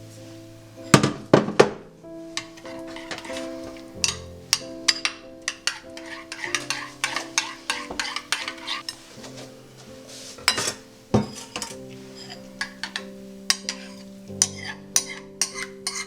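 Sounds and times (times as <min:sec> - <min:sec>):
soft background music: 0:00.0 - 0:16.0
utensils clinking against dishes: 0:02.4 - 0:16.0.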